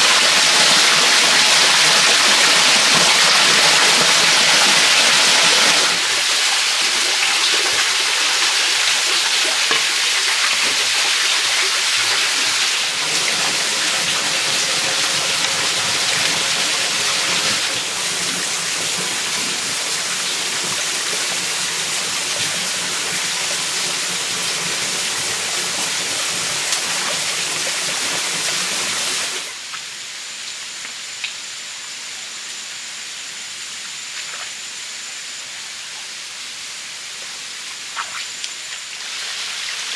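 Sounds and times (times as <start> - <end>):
stream rushing over stones: 0.0 - 29.7, 37.4 - 39.9.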